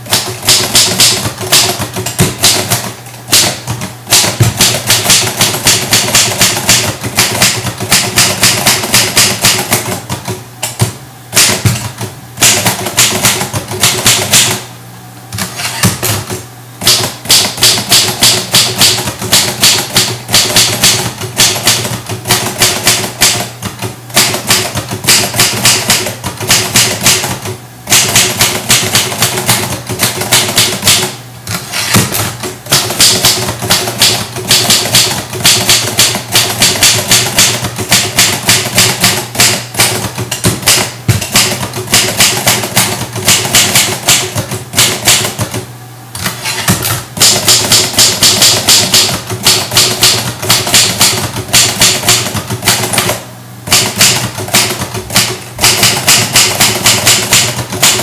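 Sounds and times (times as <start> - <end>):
typewriter key strikes: 0.0 - 14.6, 15.4 - 45.6, 46.2 - 58.0.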